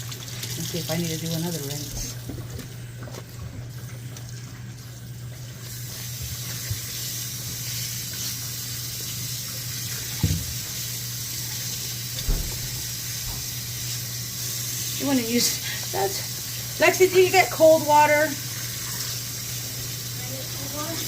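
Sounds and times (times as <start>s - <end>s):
water running from a tap: 0.0s - 21.0s.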